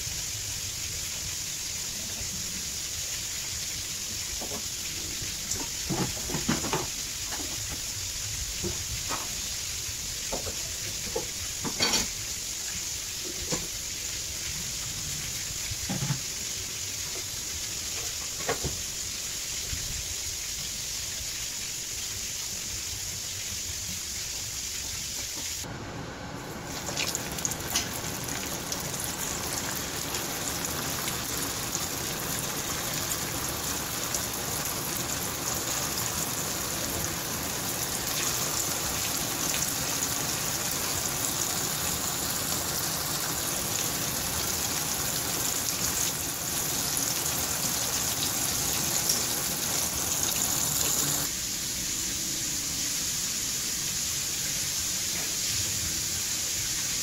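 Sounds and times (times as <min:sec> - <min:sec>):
chicken deep-frying in oil: 0:00.0 - 0:57.0.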